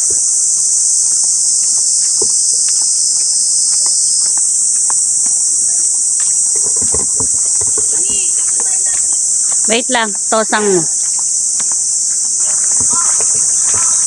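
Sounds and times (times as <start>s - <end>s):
insects shrilling: 0.0s - 14.0s.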